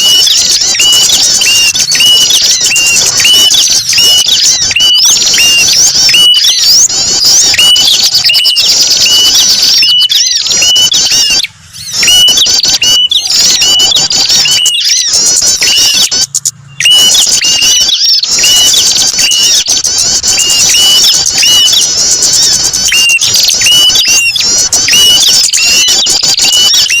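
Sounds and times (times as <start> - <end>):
fast high twittering: 0.0 - 27.0
hooked bird chirp: 0.0 - 27.0.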